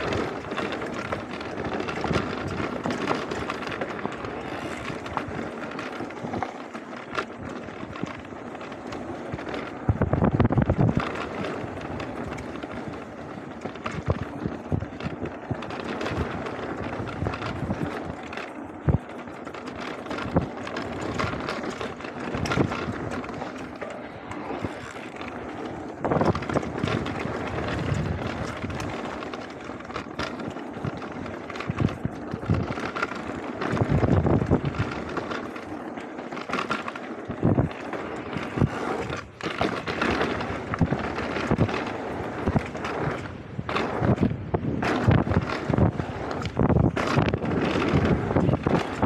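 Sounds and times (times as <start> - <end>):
bike knocking and rattling: 0.0 - 49.0
bike tyres on loose stones: 0.0 - 49.0.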